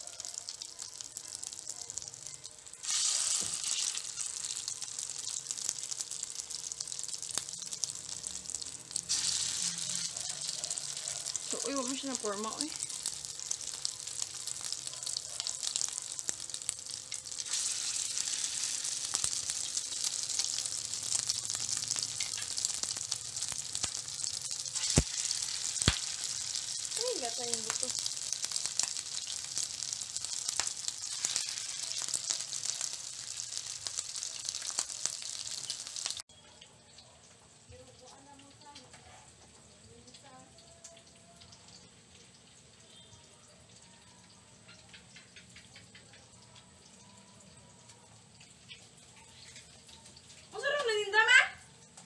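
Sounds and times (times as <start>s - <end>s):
meatballs sizzling in oil: 0.0s - 52.0s.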